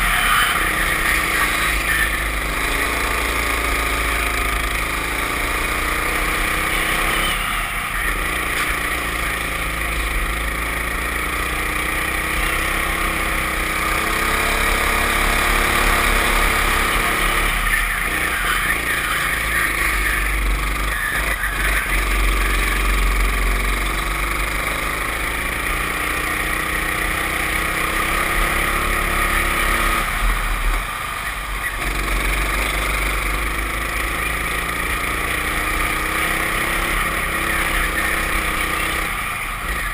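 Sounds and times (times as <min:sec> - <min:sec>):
go-kart engine at full throttle: 0:00.0 - 0:39.9.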